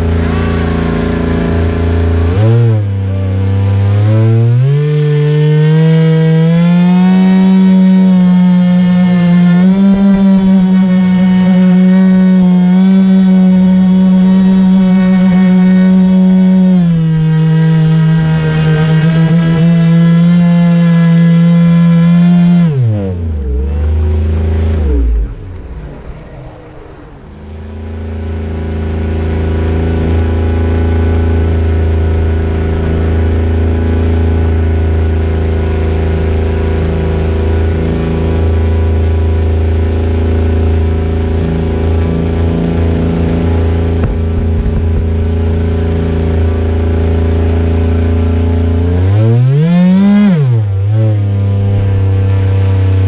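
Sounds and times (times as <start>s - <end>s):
model boat motor running: 0.0s - 25.4s, 27.5s - 53.0s.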